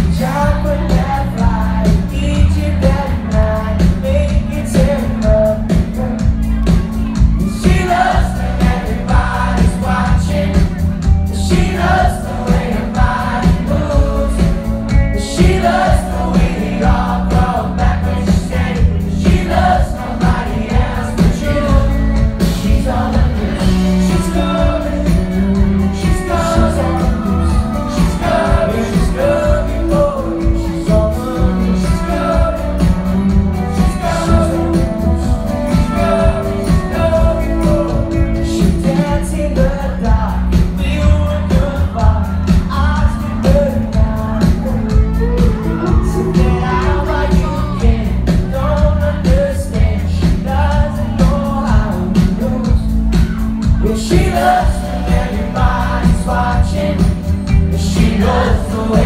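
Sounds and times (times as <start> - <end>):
live pop-rock band playing: 0.0 - 59.0
man singing: 0.0 - 59.0.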